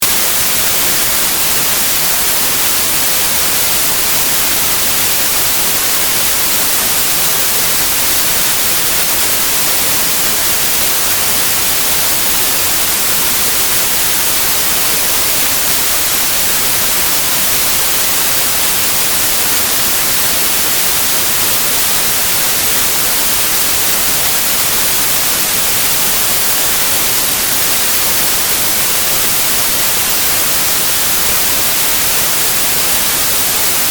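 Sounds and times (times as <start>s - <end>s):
television static hiss: 0.0s - 33.9s.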